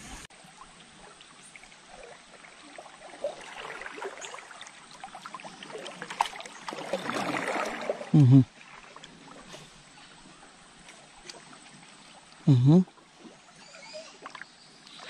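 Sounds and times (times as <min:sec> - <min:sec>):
water splashing around boat: 0:00.0 - 0:15.0.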